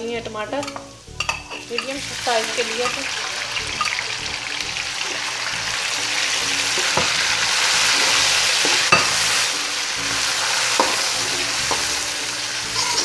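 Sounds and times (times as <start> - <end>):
tomatoes sizzling in oil: 0.0 - 13.0
spoon scraping pan: 0.5 - 4.1, 6.2 - 13.0.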